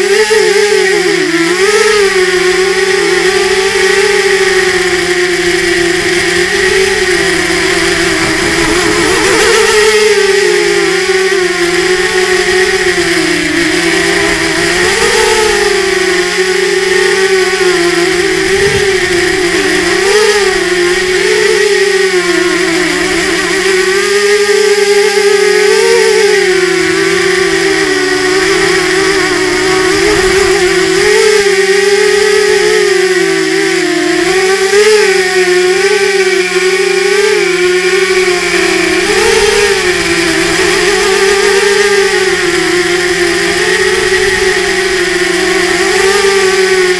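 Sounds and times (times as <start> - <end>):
quadcopter motors whining: 0.0 - 46.9.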